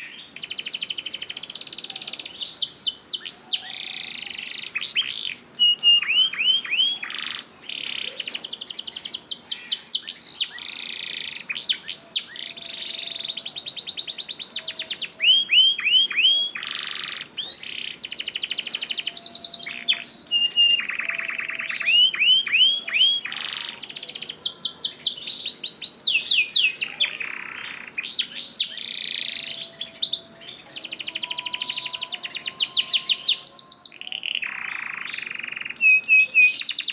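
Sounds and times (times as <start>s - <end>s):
canary singing: 0.0s - 36.9s.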